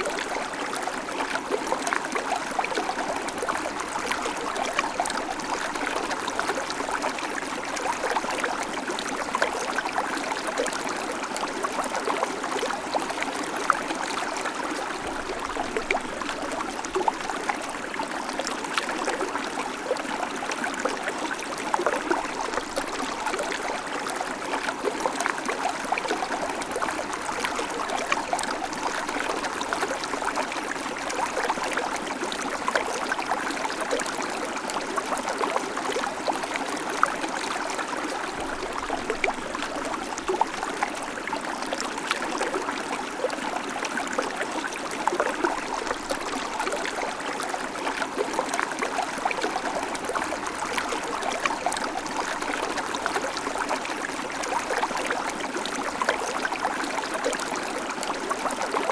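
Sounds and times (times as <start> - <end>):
creek water running over stones: 0.0 - 58.9.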